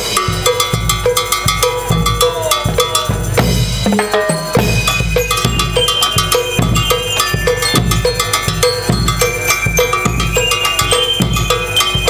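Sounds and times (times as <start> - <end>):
bass drum beat: 0.0 - 12.0
bell lyres ringing: 0.0 - 12.0
snare drums: 0.0 - 12.0.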